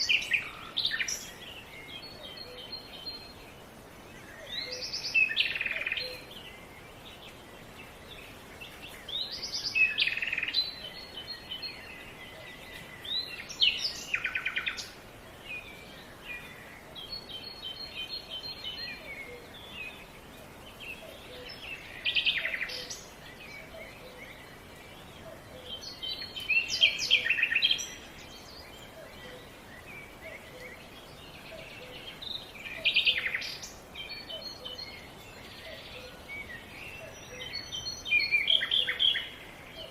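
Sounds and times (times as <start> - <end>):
faint outdoor hiss: 0.0 - 39.9
songbirds singing: 0.0 - 39.9.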